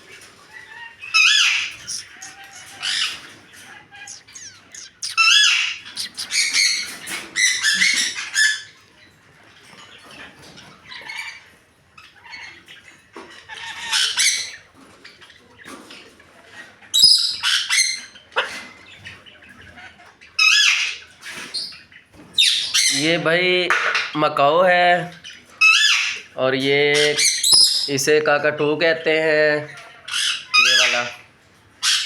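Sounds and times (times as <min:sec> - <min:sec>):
parrots chattering: 0:00.2 - 0:08.8, 0:09.8 - 0:15.4, 0:16.6 - 0:23.1, 0:25.1 - 0:28.1, 0:29.0 - 0:32.0
parrots squawking and screeching: 0:00.2 - 0:08.8, 0:09.5 - 0:15.4, 0:16.8 - 0:23.1, 0:25.1 - 0:28.0, 0:29.6 - 0:32.0.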